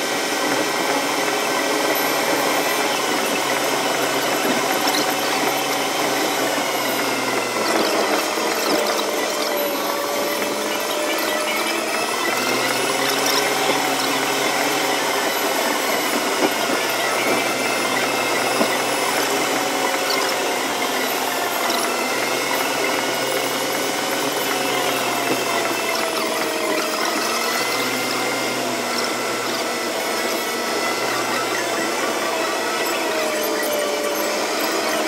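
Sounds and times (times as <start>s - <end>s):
car road and engine noise: 0.0s - 35.0s
thin whine drifting in pitch: 0.0s - 35.0s.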